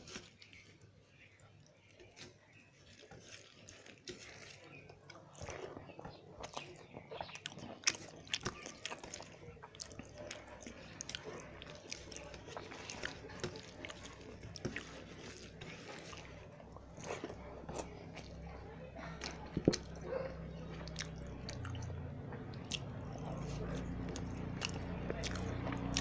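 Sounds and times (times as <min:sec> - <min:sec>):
wet chewing: 0:00.0 - 0:26.0.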